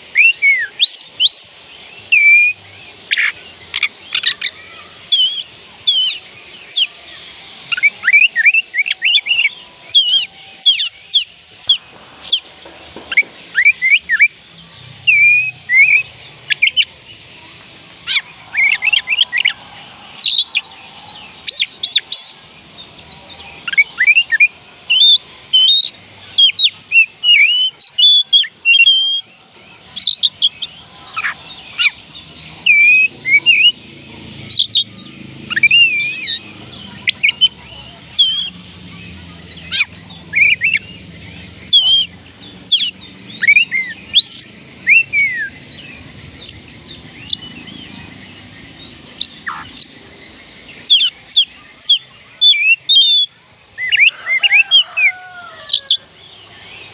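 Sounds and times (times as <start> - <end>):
magpie robin singing: 0.0 - 17.2, 18.0 - 33.8, 34.4 - 56.9.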